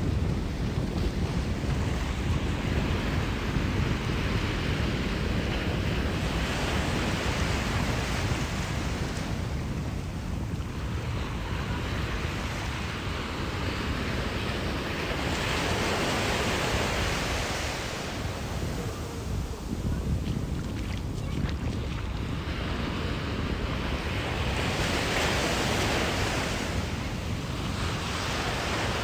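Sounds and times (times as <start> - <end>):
ocean surf washing on shore: 0.0 - 29.0
wind rumbling on microphone: 0.0 - 29.0.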